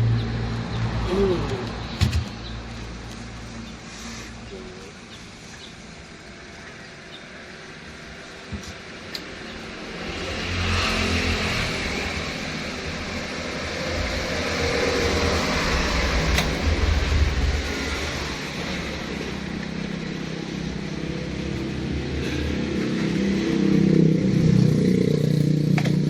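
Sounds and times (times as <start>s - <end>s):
engine running with low rumble: 0.0s - 26.0s.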